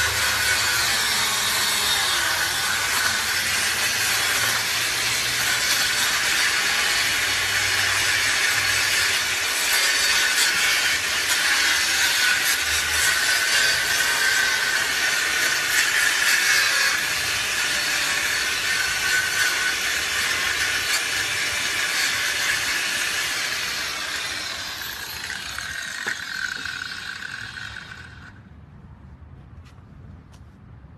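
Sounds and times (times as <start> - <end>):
power tool grinding: 0.0 - 28.4.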